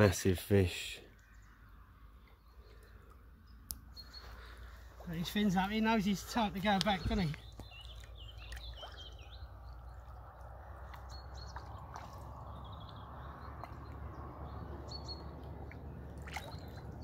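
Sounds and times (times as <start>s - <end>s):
gentle water movement: 0.0s - 17.0s
bird chirps: 1.1s - 17.0s.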